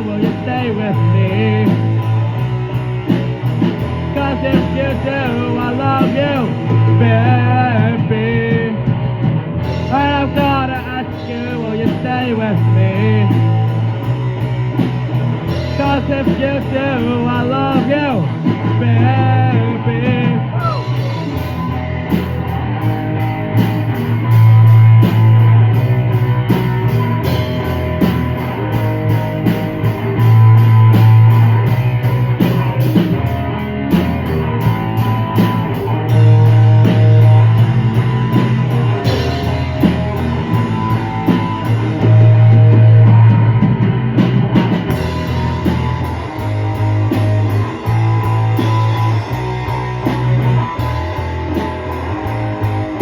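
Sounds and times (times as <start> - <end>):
bass guitar: 0.0 - 53.0
instrumental rock band: 0.0 - 53.0.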